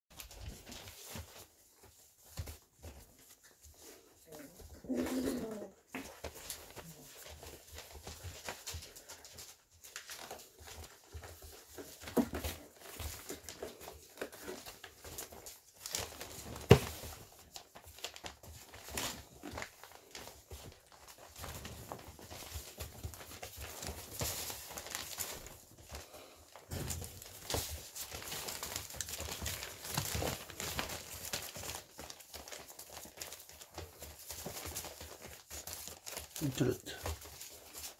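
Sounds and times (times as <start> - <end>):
newspaper rustling and crinkling: 0.1 - 37.9.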